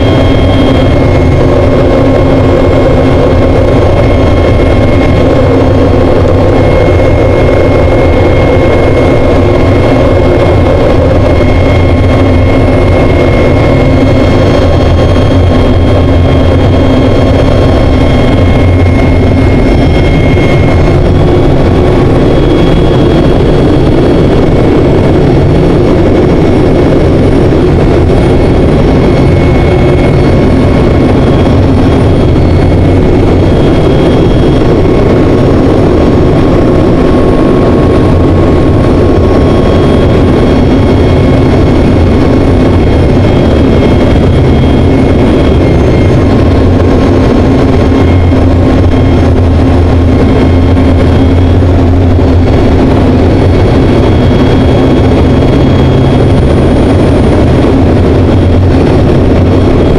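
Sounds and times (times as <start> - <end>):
propeller engine drone: 0.0 - 59.9.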